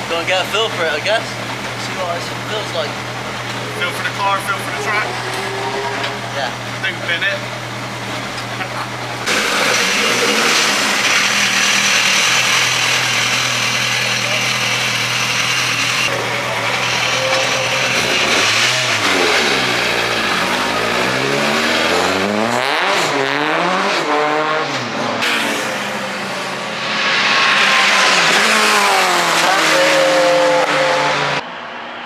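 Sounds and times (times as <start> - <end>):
race car engine revving: 0.2 - 31.8.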